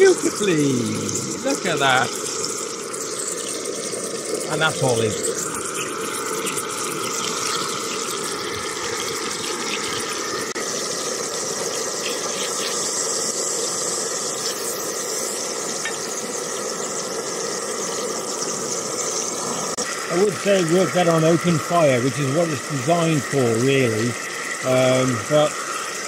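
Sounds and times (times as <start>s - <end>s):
burger patties sizzling in a pan: 0.0s - 26.0s.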